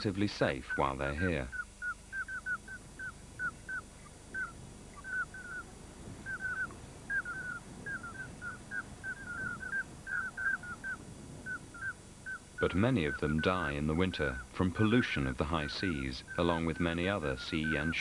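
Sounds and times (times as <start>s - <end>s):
ducks calling: 0.0s - 18.0s.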